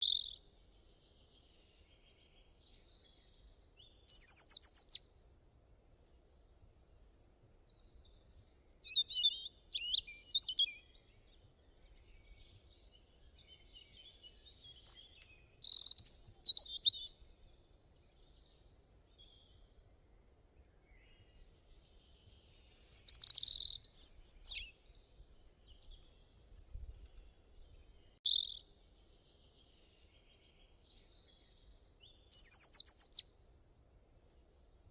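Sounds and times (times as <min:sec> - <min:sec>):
songbirds chirping and warbling: 0:00.0 - 0:05.1, 0:06.9 - 0:33.5.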